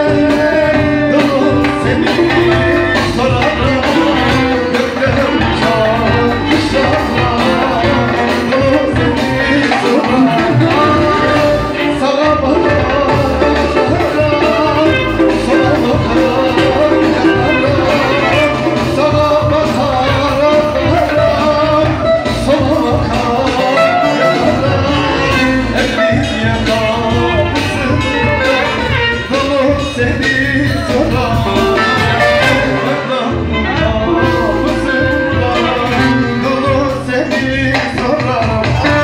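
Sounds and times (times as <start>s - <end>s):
man singing through a microphone: 0.0s - 39.0s
plucked string instruments: 0.0s - 39.0s
steady beat: 0.0s - 39.0s.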